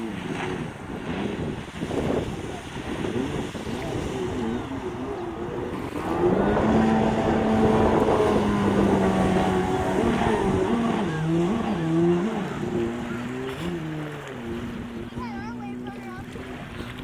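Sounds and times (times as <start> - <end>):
personal watercraft engine passing: 0.0 - 17.0.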